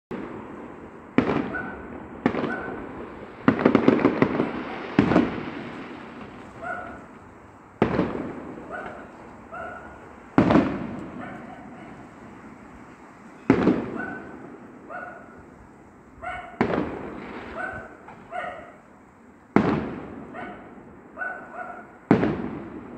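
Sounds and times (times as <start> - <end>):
fireworks bangs: 0.1 - 15.8, 16.4 - 22.9
fireworks crackling: 0.1 - 22.9.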